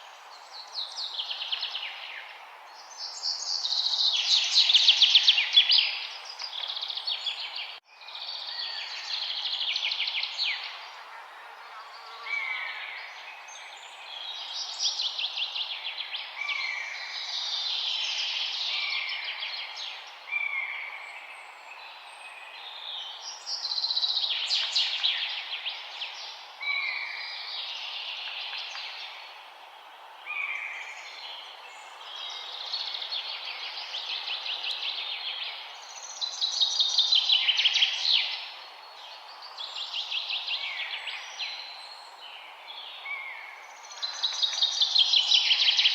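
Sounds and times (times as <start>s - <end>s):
songbirds trilling and chirping: 0.0s - 45.9s
low background hiss: 6.9s - 45.9s.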